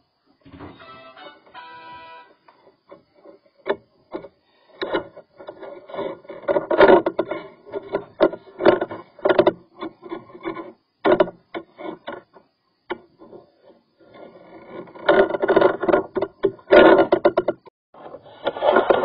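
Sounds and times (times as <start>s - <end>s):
drain cable scraping inside pipe: 0.7s - 19.0s.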